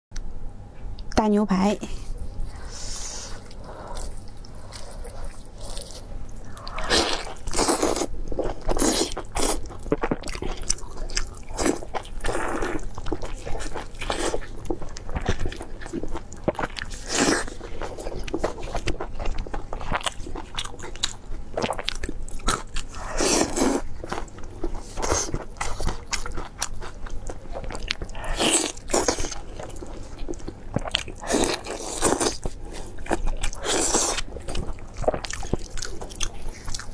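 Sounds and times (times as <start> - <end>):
crunchy bites and chewing: 3.4 - 36.9.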